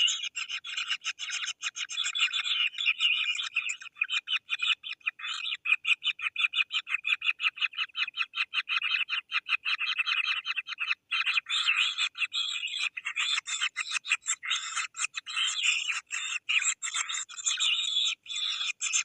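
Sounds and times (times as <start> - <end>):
nestlings begging calls: 0.0 - 19.0.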